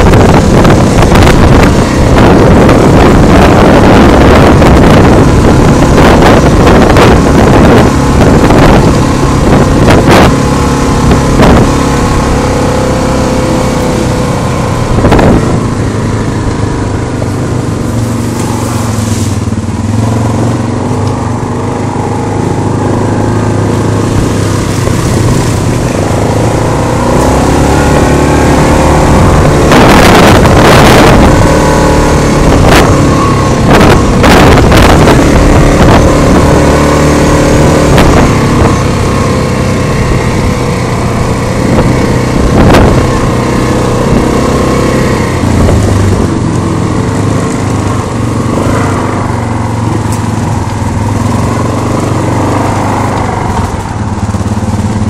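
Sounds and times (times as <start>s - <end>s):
quad bike engine under throttle: 0.0s - 55.0s.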